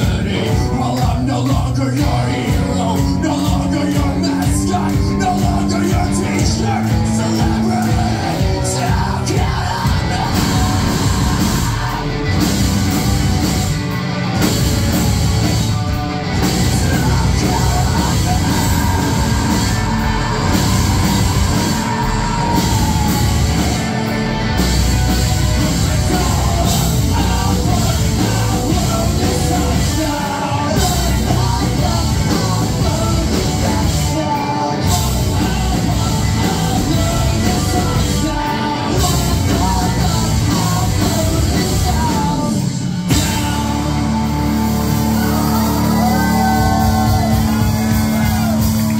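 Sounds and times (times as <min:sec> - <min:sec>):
singer yelling and singing: 0:00.0 - 0:13.7, 0:16.3 - 0:48.9
live rock band: 0:00.0 - 0:48.9.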